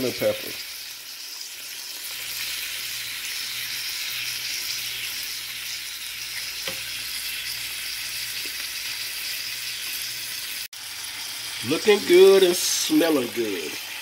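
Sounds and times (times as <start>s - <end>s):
steak sizzling in frying pan: 0.0s - 14.0s.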